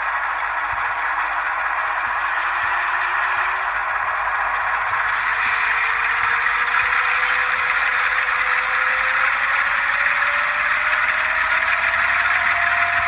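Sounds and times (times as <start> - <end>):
model train engine drone with whine: 0.0 - 13.0.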